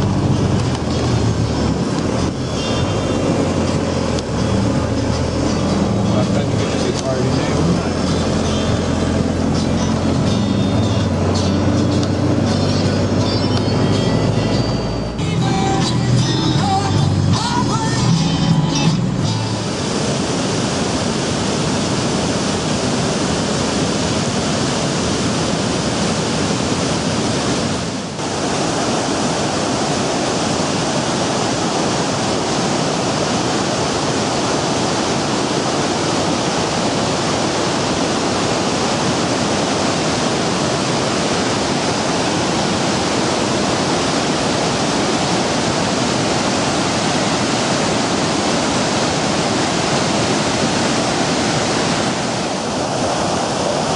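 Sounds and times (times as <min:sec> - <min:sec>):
rush of fast-flowing floodwater: 0:00.0 - 0:53.9.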